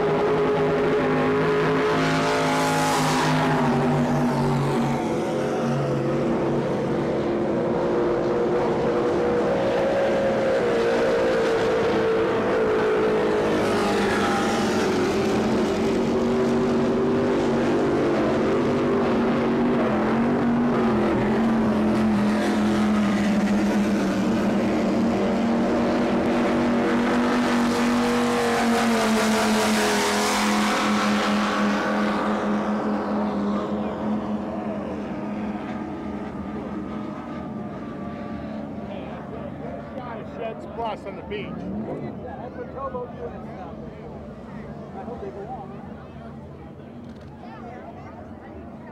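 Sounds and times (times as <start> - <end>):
boats passing by: 0.0 - 48.9
powerboat engines running hard: 0.0 - 48.9.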